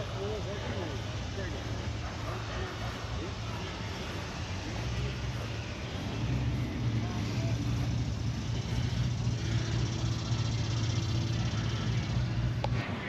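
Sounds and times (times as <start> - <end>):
motor vehicle engine running: 0.0 - 13.0.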